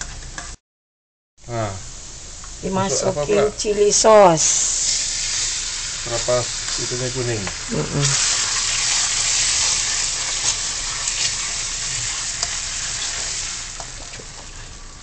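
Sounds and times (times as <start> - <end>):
sauce sizzling in hot oil: 1.5 - 15.0.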